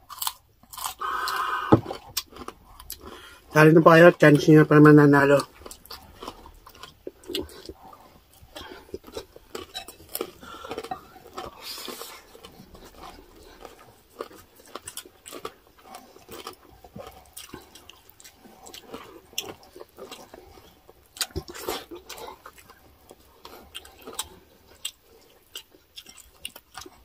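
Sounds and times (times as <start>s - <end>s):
chewing and wet mouth noises: 0.1s - 27.0s.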